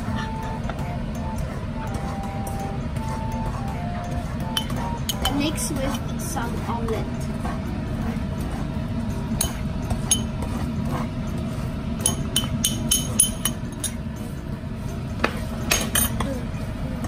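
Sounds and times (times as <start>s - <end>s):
metal spoon scraping bowl and pan: 0.0s - 16.4s
steady low hum: 0.0s - 17.0s.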